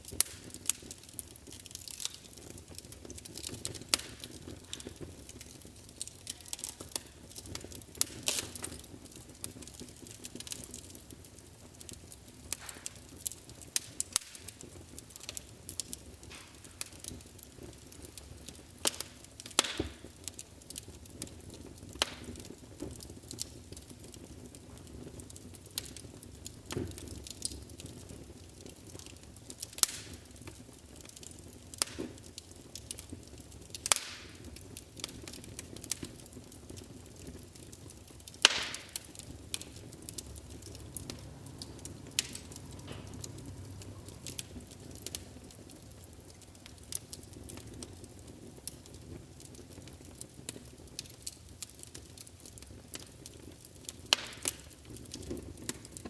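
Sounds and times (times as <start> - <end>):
hiss of flames: 0.0 - 56.0
wood fire crackling: 0.0 - 56.0.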